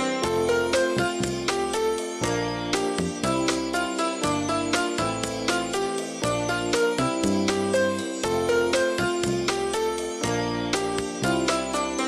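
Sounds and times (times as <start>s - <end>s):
bright melodic tune: 0.0s - 12.0s.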